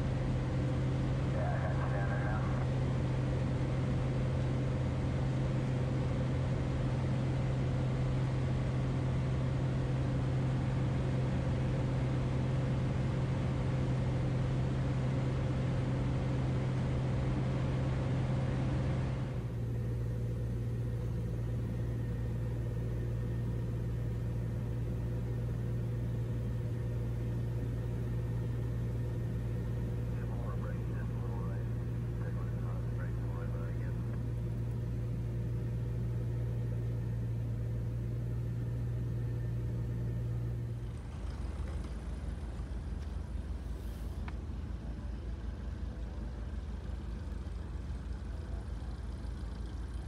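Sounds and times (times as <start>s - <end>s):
light aircraft engine and propeller: 0.0s - 50.0s.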